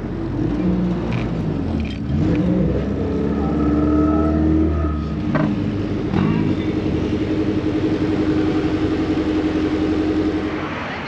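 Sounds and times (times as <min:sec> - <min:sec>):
car engine droning under load: 0:00.0 - 0:11.0.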